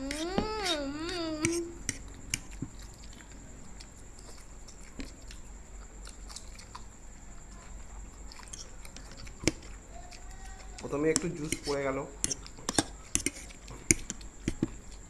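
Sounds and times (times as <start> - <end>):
chewing and biting food: 1.9 - 15.0.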